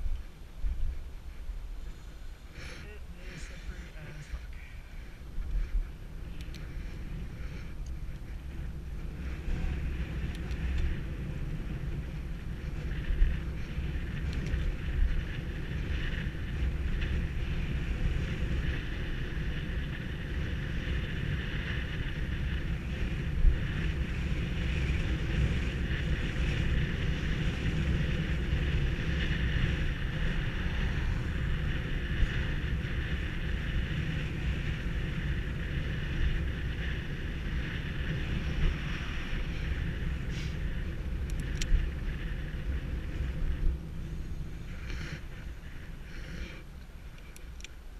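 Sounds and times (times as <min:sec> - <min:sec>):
wind rushing on microphone: 0:00.0 - 0:47.9
tyres rolling over asphalt: 0:02.6 - 0:47.1.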